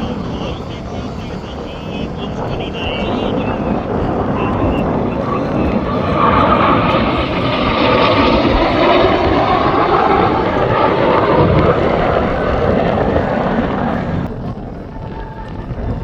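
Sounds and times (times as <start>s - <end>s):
aircraft engine flying past: 0.0s - 16.0s.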